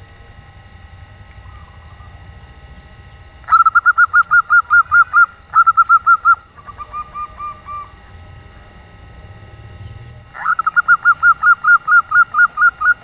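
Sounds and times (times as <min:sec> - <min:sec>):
dove cooing notes: 0:01.1 - 0:13.0.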